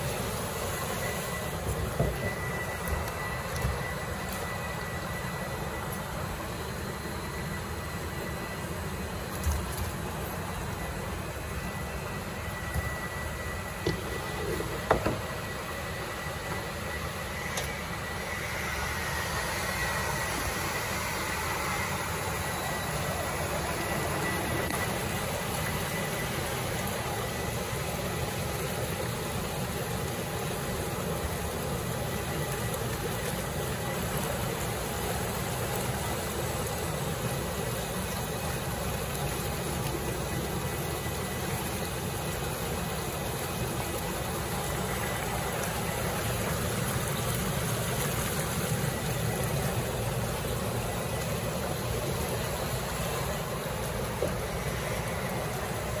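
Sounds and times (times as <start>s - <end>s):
pumps and conveyor mechanical noise: 0.0s - 56.0s.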